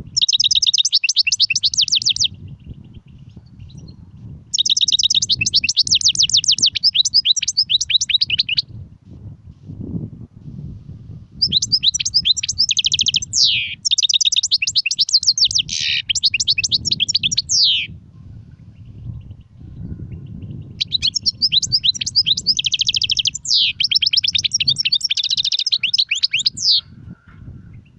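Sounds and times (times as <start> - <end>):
finch singing high twittering trills: 0.1 - 8.7, 11.4 - 18.0, 18.6 - 27.9.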